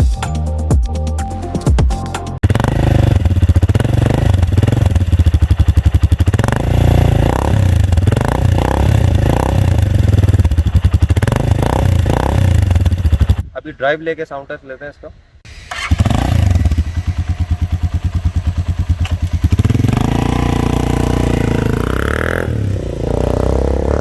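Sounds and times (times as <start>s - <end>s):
motorcycle engine revving: 2.4s - 13.4s, 15.5s - 24.0s.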